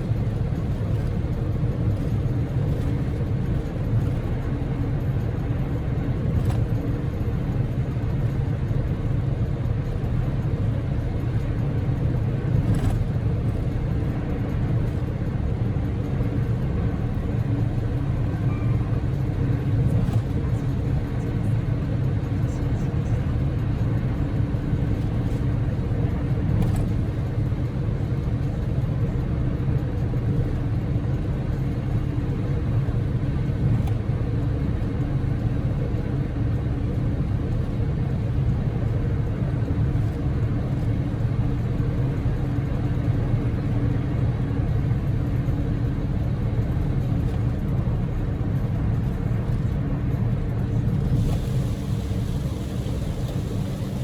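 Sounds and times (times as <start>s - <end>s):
car engine running: 0.0s - 54.0s
tyre and road noise: 0.0s - 54.0s.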